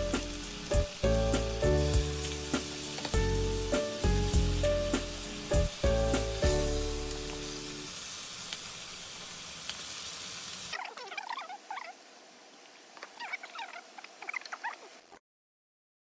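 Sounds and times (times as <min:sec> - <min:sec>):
food sizzling in a pan: 0:00.0 - 0:15.2.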